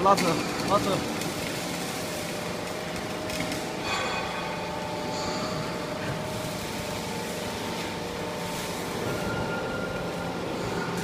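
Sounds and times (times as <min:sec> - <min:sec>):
baling press machine hum: 0:00.0 - 0:11.0.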